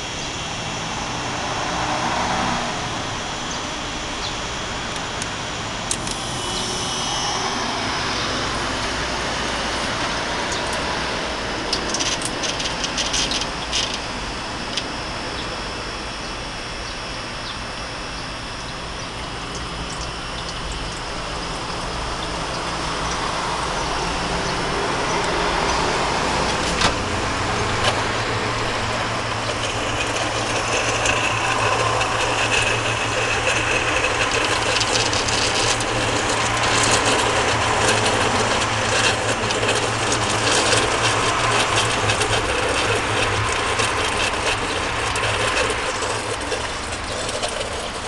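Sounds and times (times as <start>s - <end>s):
ice maker humming and rattling: 0.0s - 48.0s
low motor hum: 0.0s - 48.0s.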